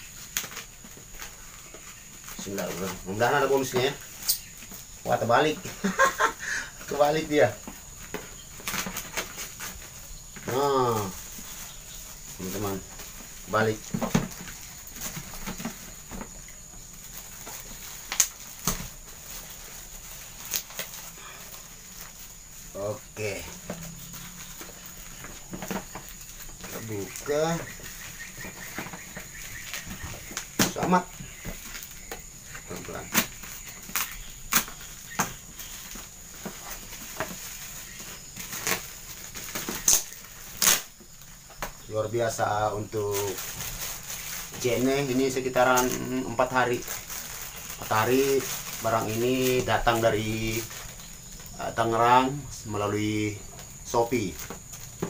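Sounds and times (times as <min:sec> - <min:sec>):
plastic packaging rustling: 0:00.0 - 0:55.0
plastic wrapping crackling: 0:00.0 - 0:55.0.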